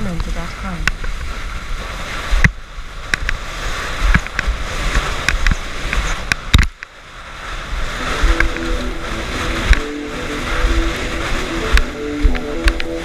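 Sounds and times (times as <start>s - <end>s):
wind rushing on microphone: 0.0s - 13.0s
board slapping water: 0.1s - 13.0s
water hissing: 1.5s - 13.0s.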